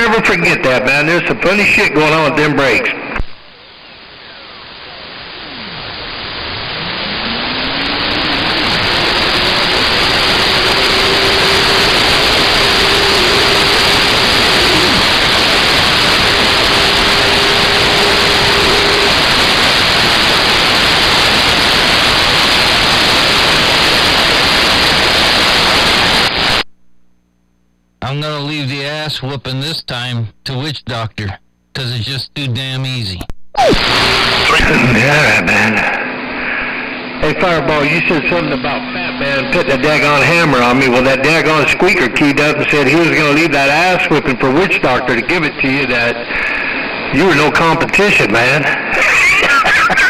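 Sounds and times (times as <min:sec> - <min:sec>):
radio static hiss: 0:00.0 - 0:50.0.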